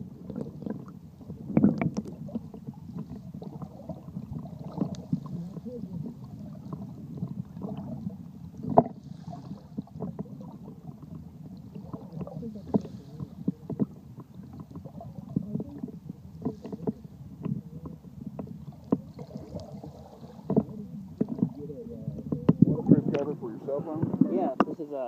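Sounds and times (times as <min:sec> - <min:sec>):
underwater rumble of moving water: 0:00.0 - 0:25.0.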